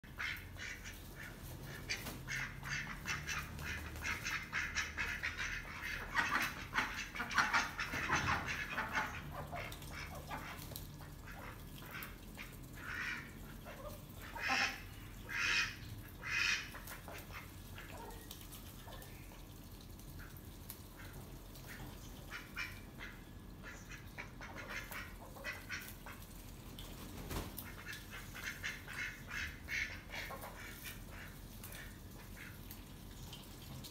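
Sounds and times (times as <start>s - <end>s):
ducks quacking: 0.1s - 18.2s, 20.2s - 26.3s, 27.6s - 32.6s.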